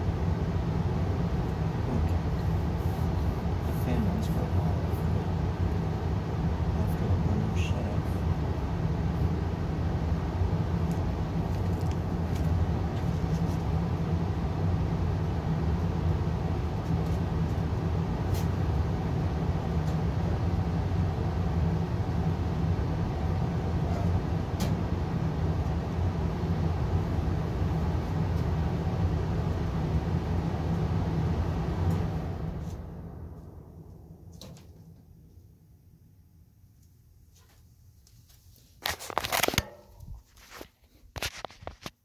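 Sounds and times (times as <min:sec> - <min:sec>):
gas furnace low rumble: 0:00.0 - 0:41.9.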